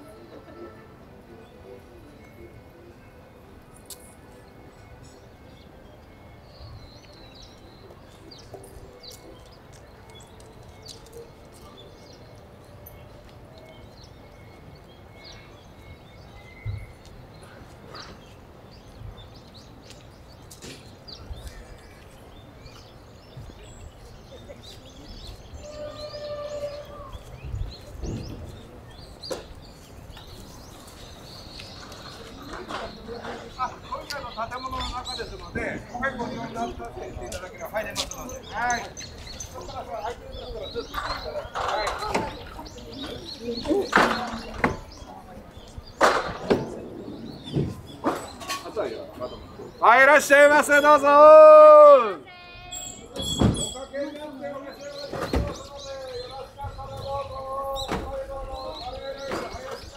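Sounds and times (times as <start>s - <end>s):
small birds chirping: 3.8s - 51.0s, 52.3s - 59.9s.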